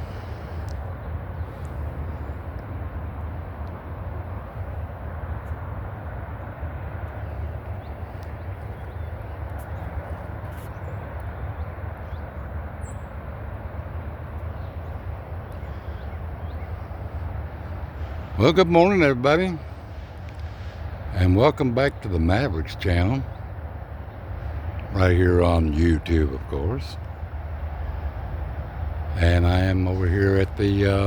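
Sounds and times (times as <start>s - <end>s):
diesel train locomotive rumble: 0.0s - 31.0s
outdoor noise: 0.0s - 31.0s.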